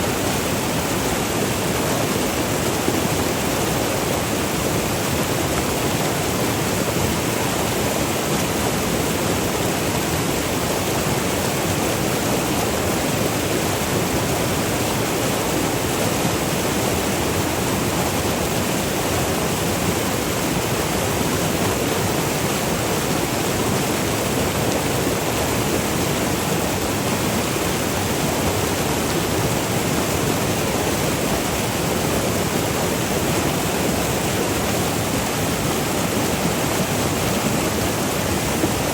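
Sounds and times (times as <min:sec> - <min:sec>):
river water rushing over rapids: 0:00.0 - 0:38.9.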